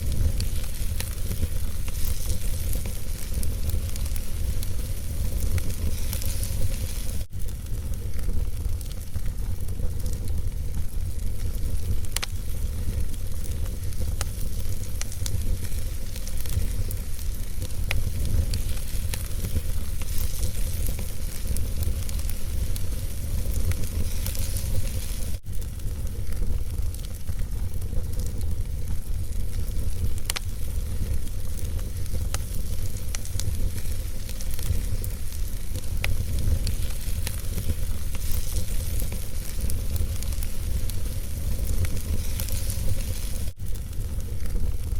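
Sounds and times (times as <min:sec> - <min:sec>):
fire crackling and popping: 0:00.0 - 0:44.9
fire rumbling and hissing: 0:00.0 - 0:44.9.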